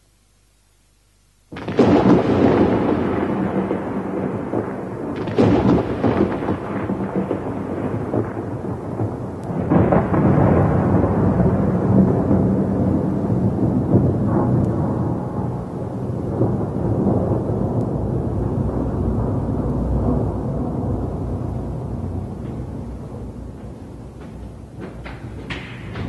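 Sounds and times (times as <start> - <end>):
steady rain: 0.0 - 26.0
thunder rumbling: 1.5 - 26.0.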